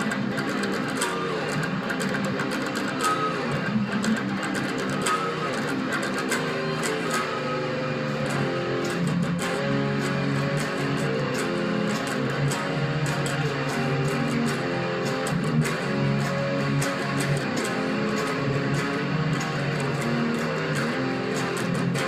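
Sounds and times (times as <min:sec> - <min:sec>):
guitar strumming chords: 0:00.0 - 0:22.0.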